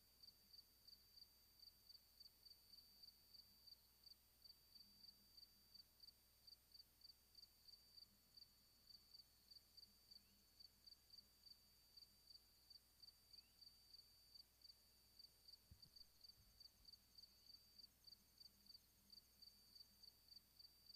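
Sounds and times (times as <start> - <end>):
faint insect chirping: 0.0 - 20.9.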